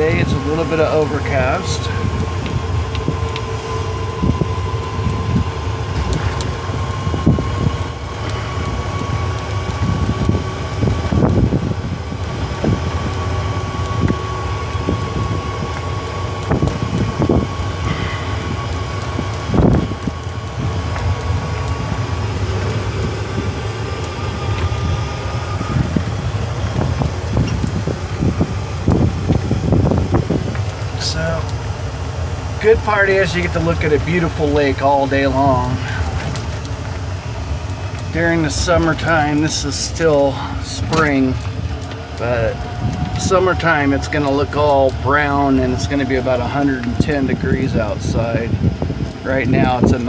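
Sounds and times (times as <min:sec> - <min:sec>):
electric motor whine: 0:00.0 - 0:50.0
road rumble: 0:00.0 - 0:50.0
wind noise: 0:00.0 - 0:50.0.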